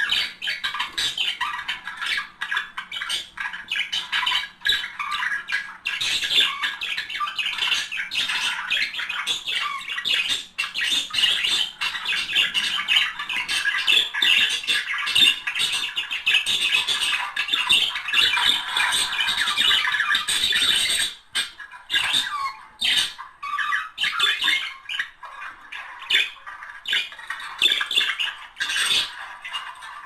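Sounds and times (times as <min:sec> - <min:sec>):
budgerigars warbling and chattering: 0:00.0 - 0:30.0.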